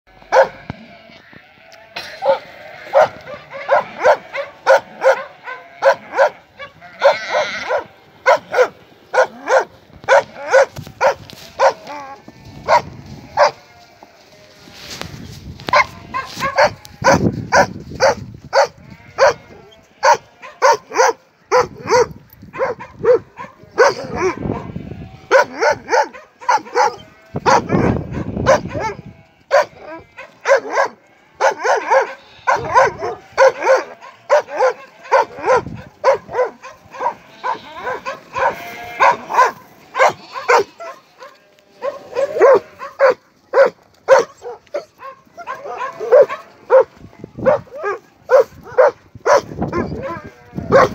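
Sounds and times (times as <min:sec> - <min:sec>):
sheep bleating: 0:00.1 - 0:21.6, 0:23.4 - 0:48.5, 0:49.7 - 0:50.9.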